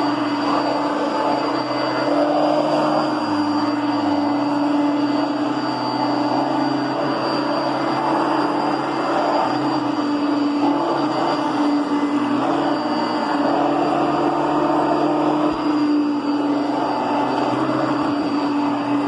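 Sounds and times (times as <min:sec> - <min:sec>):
upright vacuum cleaner running: 0:00.0 - 0:19.0.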